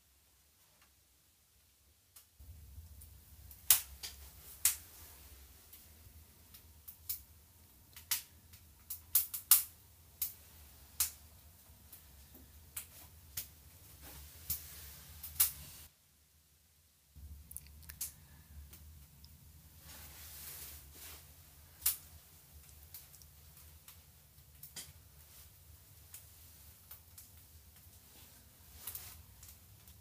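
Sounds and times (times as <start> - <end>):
wood fire crackling: 2.2 - 15.9, 17.2 - 30.0.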